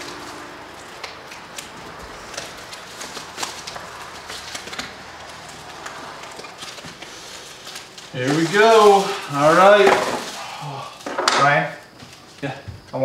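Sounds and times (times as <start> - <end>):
packaging rustling: 0.0 - 12.4.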